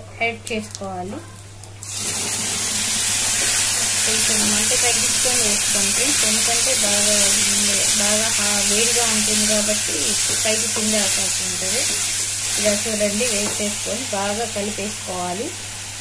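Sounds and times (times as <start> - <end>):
spices sizzling in hot oil: 1.7 - 16.0.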